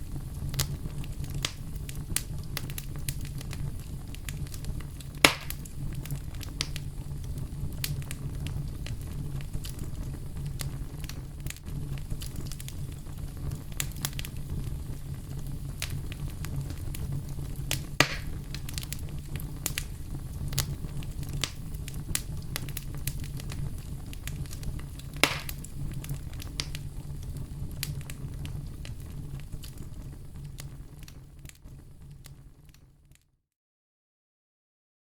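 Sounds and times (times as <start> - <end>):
campfire crackling and popping: 0.0 - 32.9
low rumble of fire: 0.0 - 33.2.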